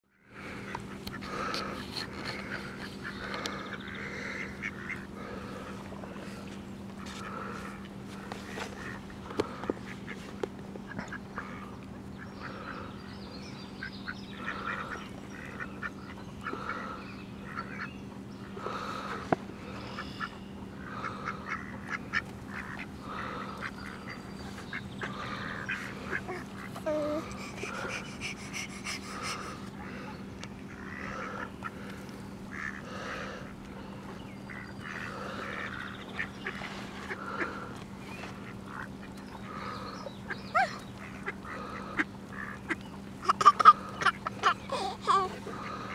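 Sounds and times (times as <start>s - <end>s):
steady low hum: 0.0s - 45.9s
ducks quacking: 0.4s - 45.9s.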